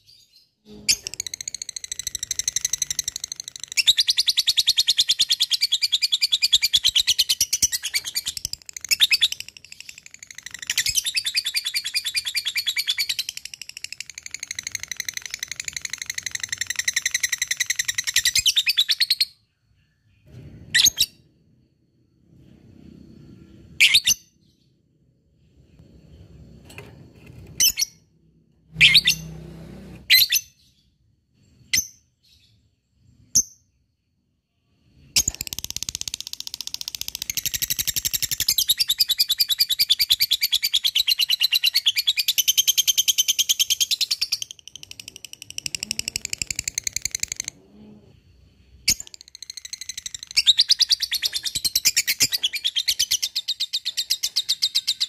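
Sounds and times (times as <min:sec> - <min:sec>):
sharp bird chirps: 0:00.0 - 0:21.8, 0:22.4 - 0:29.4, 0:30.0 - 0:55.0.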